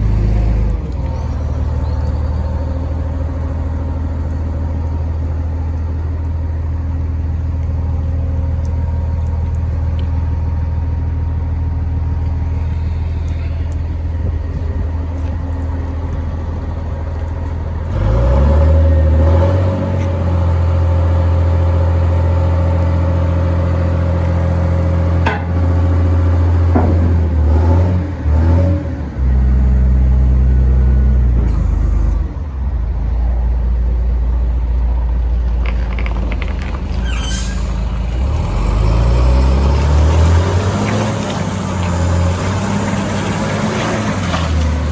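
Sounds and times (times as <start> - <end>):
diesel truck engine idling and revving: 0.0 - 44.9.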